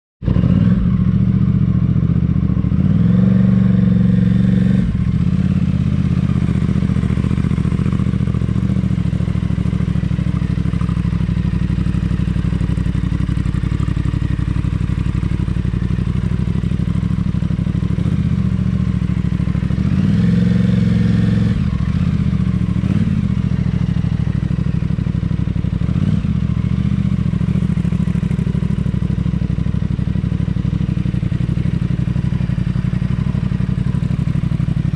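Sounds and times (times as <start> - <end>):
motorcycle engine at low revs: 0.2 - 34.9.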